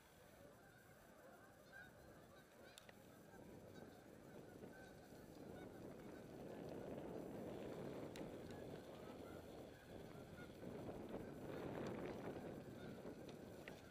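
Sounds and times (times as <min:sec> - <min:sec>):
geese honking: 0:00.0 - 0:13.9.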